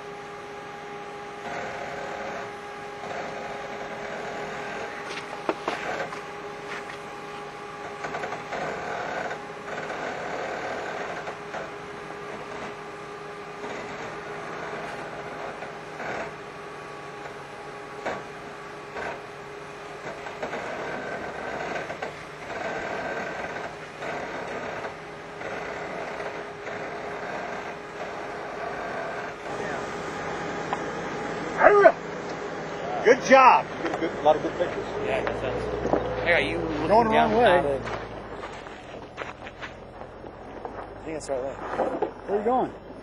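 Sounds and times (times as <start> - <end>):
engine running at low revs: 0.0 - 43.0.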